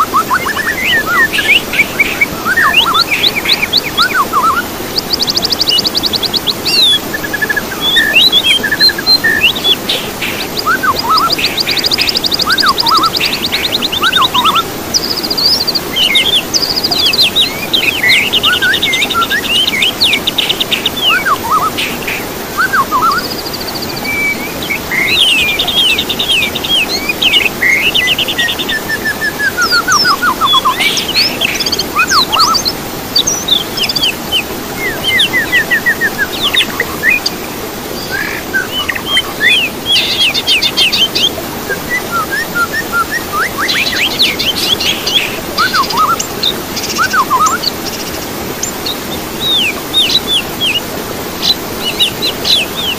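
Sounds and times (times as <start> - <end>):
songbirds singing and calling: 0.0 - 52.9
steady background hiss: 0.0 - 52.9.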